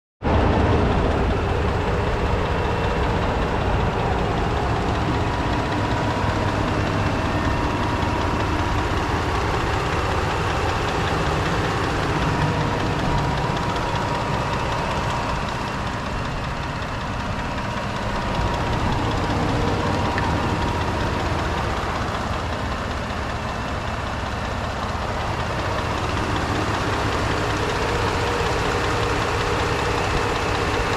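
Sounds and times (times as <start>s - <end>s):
pickup engine idling: 0.3s - 30.9s.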